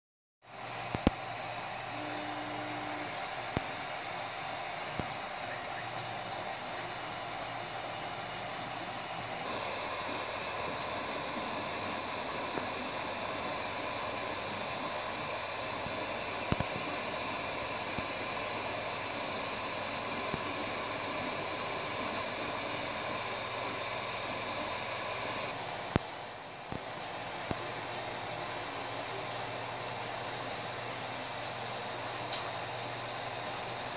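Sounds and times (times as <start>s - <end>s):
printer fans and motors whirring: 0.4s - 33.9s.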